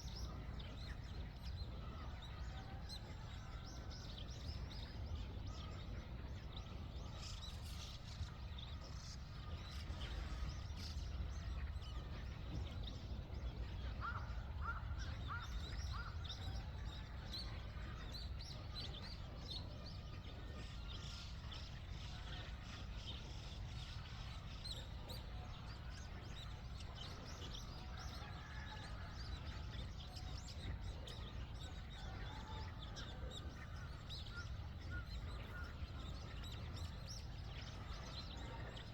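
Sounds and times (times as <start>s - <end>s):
small birds chirping: 0.0s - 38.9s
steady low rumble: 0.0s - 38.9s.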